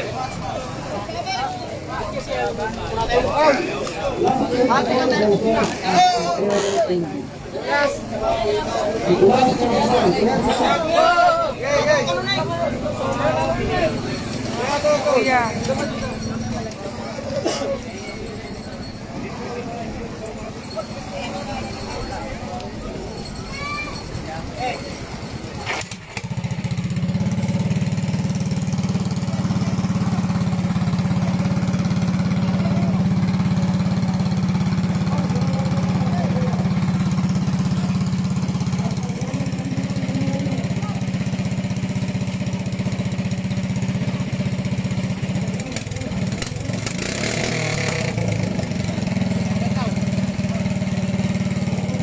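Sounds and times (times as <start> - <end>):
small boat engine running: 0.0 - 52.0.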